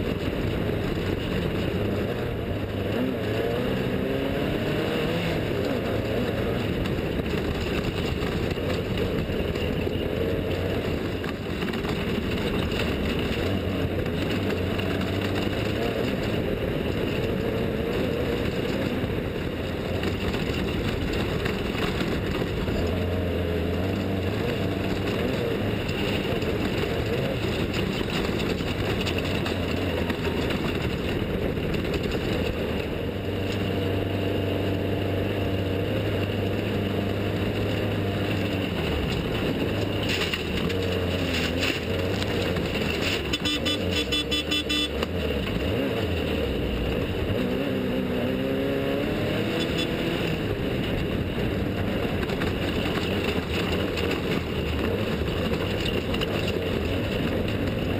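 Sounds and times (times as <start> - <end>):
vehicle engines running: 0.0 - 57.9.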